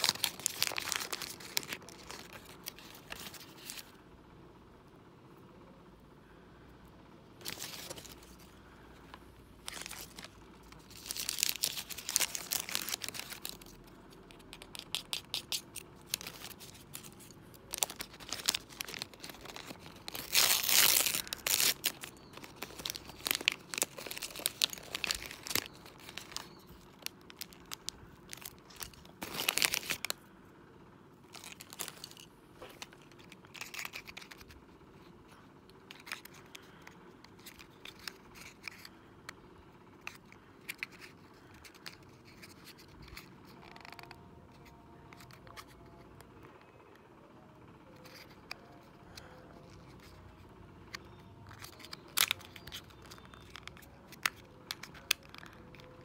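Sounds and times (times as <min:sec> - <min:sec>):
plastic wrappers crinkling: 0:00.0 - 0:04.0, 0:07.4 - 0:30.3, 0:31.2 - 0:39.4, 0:40.0 - 0:46.5, 0:47.9 - 0:56.0.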